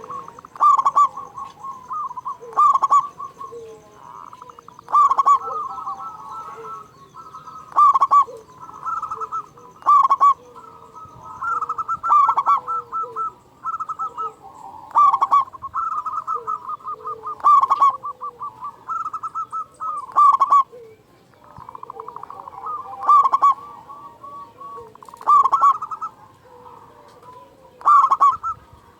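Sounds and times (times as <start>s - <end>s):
dove cooing: 0.0s - 28.9s.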